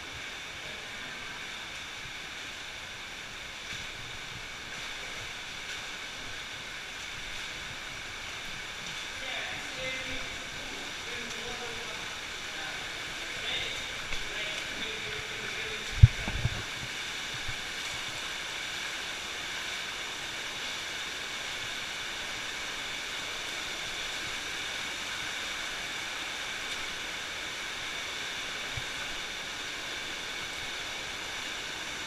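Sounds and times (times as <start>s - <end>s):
stream rushing in a cave: 0.0s - 32.0s.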